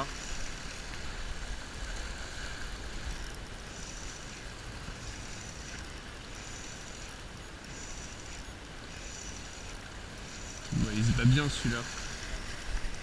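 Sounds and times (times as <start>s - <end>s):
waves washing against rocks: 0.0s - 13.0s
wind rumbling on microphone: 0.0s - 13.0s.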